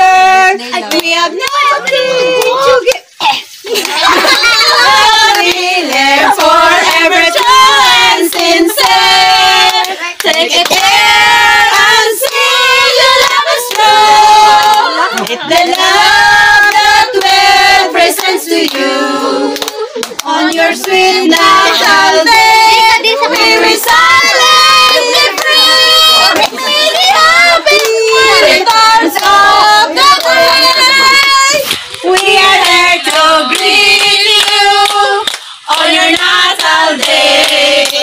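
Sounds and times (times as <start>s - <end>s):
women and children singing: 0.0s - 38.0s
hands clapping: 0.8s - 3.0s, 3.7s - 17.4s, 19.5s - 22.4s, 23.3s - 38.0s.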